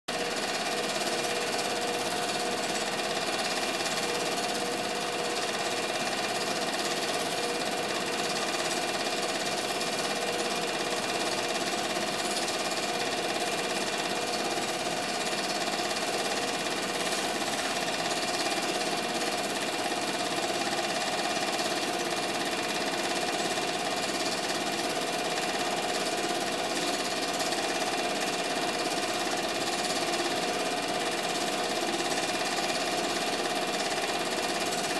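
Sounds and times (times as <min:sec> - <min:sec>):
film projector whirring and clattering: 0:00.1 - 0:34.9.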